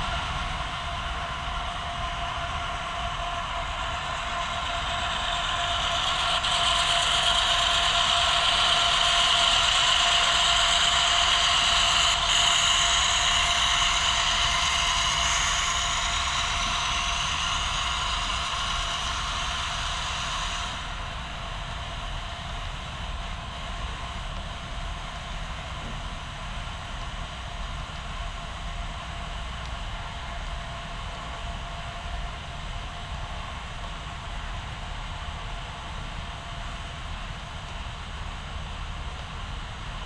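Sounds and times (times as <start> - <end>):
model train motor hum: 0.0 - 40.0
model train wheels on rails: 0.0 - 40.0.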